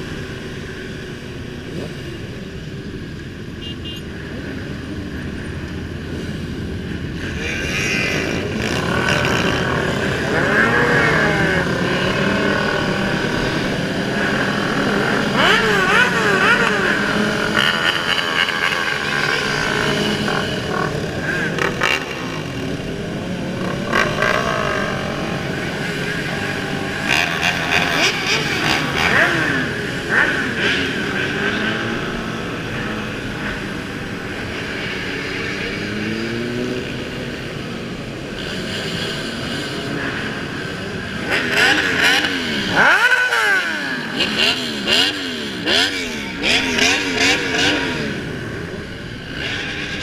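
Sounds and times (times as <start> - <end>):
motorcycle engines revving: 0.0 - 50.0.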